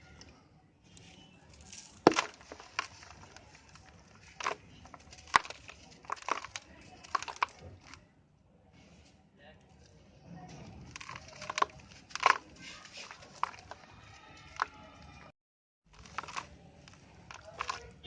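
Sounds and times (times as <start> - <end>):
dry dirt crunching: 0.9 - 8.1, 10.5 - 18.0.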